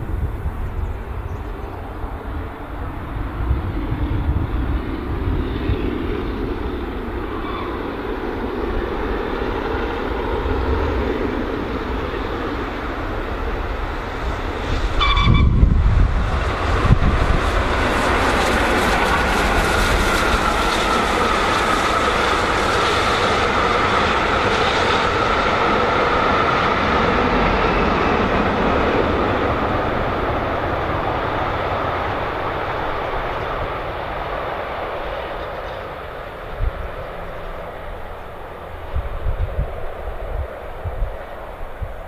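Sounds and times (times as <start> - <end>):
steam train passing: 0.0 - 42.0.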